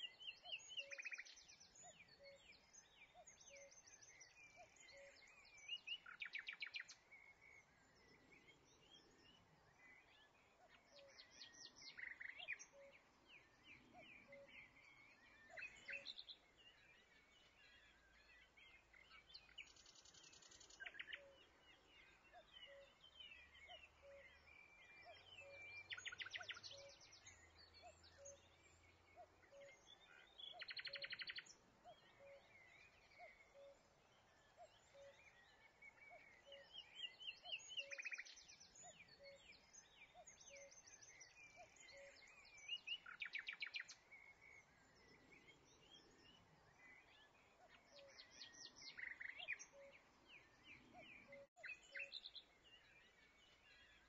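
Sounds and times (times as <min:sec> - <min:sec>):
faint songbird trills: 0:00.0 - 0:54.0.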